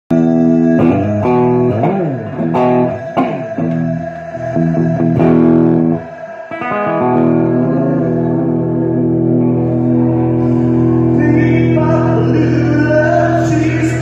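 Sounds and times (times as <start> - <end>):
electric guitar rockabilly riff: 0.1 - 14.0.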